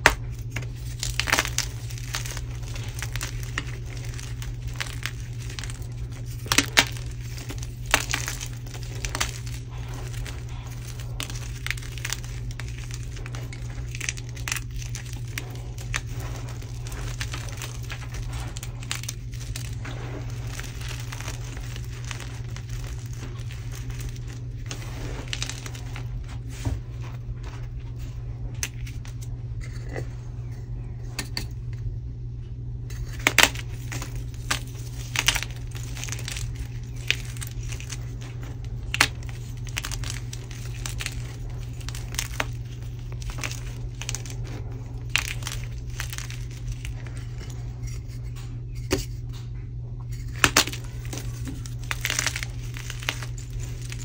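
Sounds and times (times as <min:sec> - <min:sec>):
chalk crunching and crackling: 0:00.0 - 0:31.4, 0:32.9 - 0:49.3, 0:50.0 - 0:54.0.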